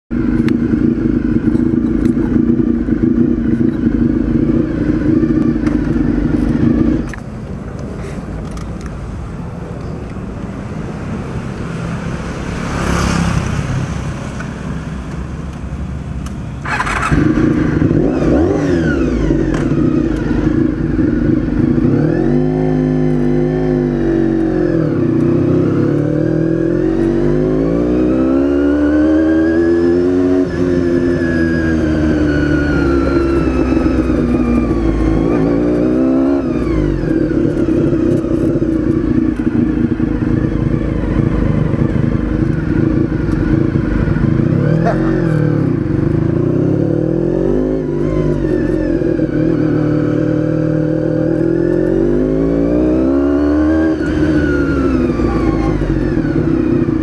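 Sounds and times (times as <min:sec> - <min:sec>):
motorcycle engine idling and revving: 0:00.1 - 0:57.0.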